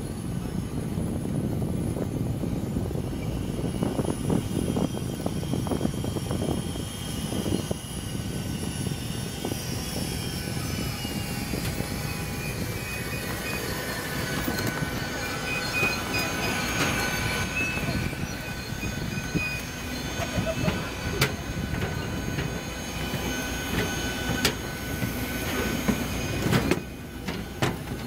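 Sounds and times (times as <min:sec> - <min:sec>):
aircraft turbine whine: 0:00.0 - 0:28.0.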